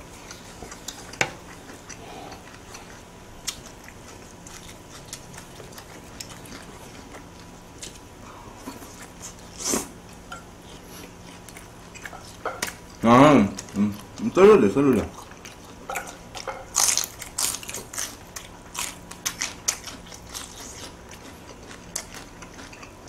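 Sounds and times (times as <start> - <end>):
chewing: 0.0 - 23.0.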